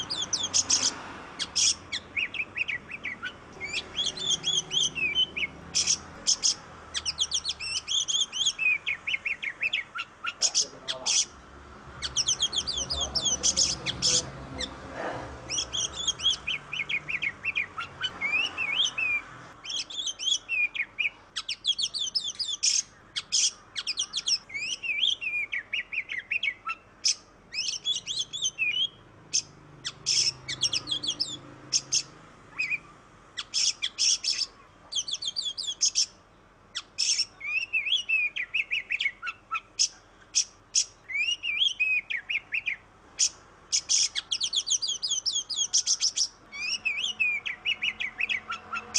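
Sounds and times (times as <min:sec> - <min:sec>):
songbird whistling song: 0:00.0 - 0:11.4, 0:12.0 - 0:14.8, 0:15.5 - 0:48.9.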